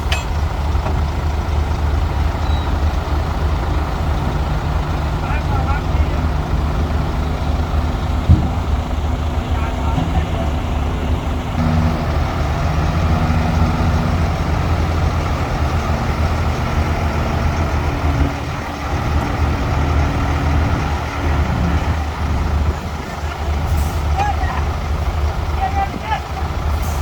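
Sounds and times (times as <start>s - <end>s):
heavy diesel engines droning: 0.0s - 27.0s.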